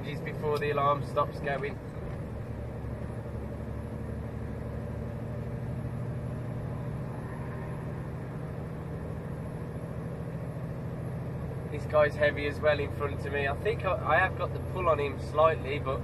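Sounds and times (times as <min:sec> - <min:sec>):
lorry engine drone: 0:00.0 - 0:16.0
road noise: 0:00.0 - 0:16.0.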